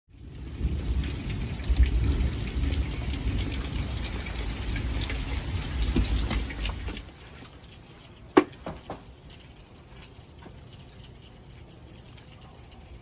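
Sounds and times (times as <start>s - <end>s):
raindrop ticks: 0.1s - 13.0s
steady rain on pavement: 0.1s - 13.0s.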